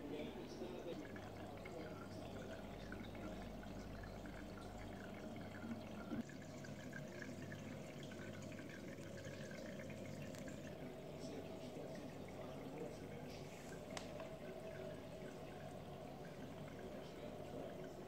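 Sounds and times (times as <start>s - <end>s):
aquarium water trickling and bubbling: 0.0s - 18.0s
low steady hum: 0.0s - 18.0s.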